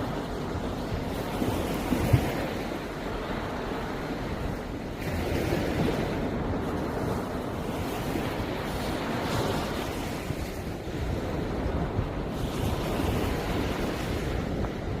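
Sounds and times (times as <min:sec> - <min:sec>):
sea waves washing ashore: 0:00.0 - 0:15.0
wind buffeting microphone: 0:00.0 - 0:15.0.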